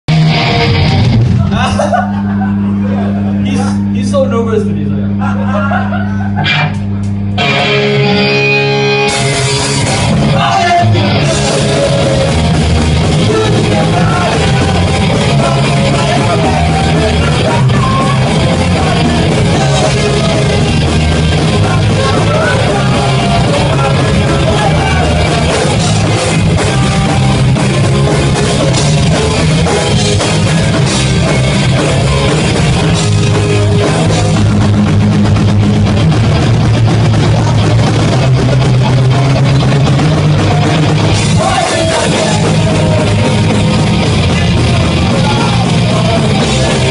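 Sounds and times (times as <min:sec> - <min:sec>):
live rock band playing: 0:00.1 - 0:04.0, 0:06.4 - 0:46.9.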